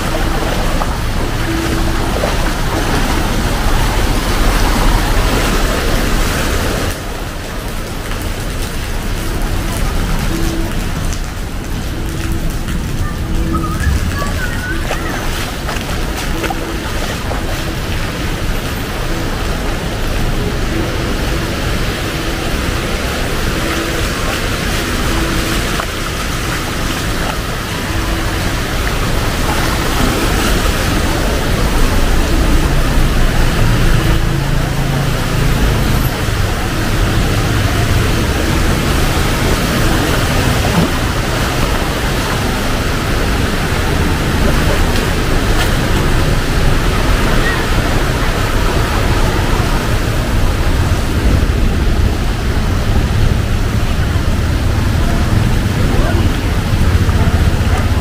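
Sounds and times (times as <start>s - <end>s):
heavy rain pouring: 0.0s - 58.0s
vehicle engine rumble: 0.0s - 58.0s.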